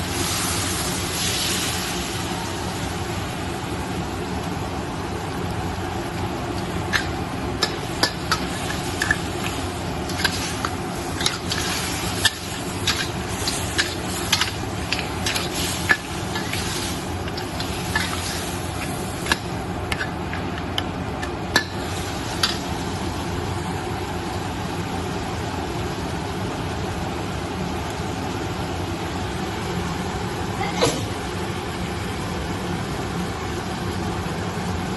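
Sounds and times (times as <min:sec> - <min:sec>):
frying hiss: 0:00.0 - 0:34.9.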